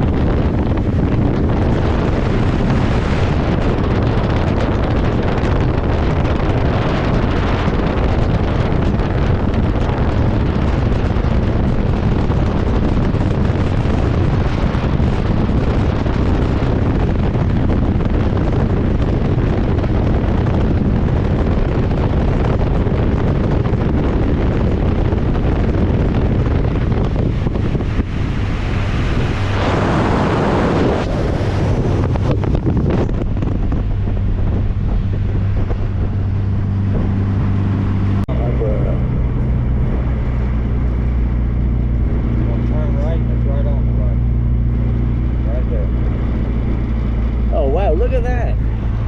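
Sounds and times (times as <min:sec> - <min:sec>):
car engine: 0:00.0 - 0:49.0
road noise: 0:00.0 - 0:49.0
wind rushing over microphone: 0:00.0 - 0:49.0.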